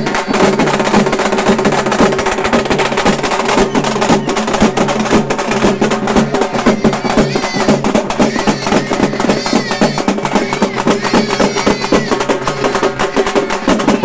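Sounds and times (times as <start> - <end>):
frame drums beaten with sticks: 0.0 - 14.0.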